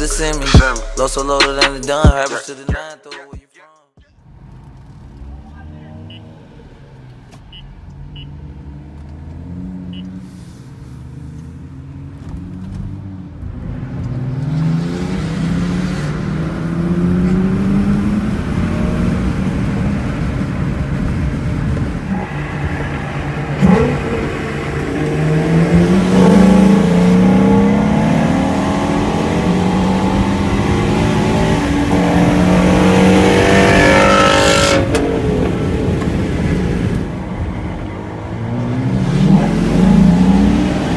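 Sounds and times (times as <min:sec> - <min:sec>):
car engine accelerating: 0:04.2 - 0:40.9.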